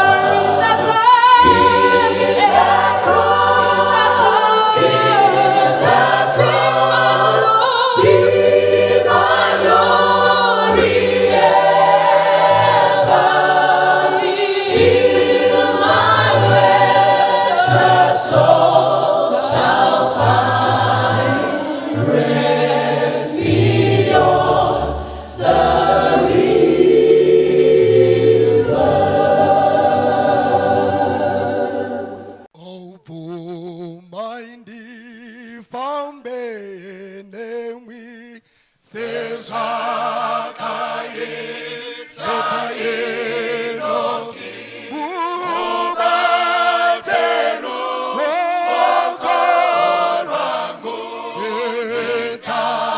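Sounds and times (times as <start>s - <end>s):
choir singing a hymn: 0.0s - 32.5s, 38.9s - 52.9s.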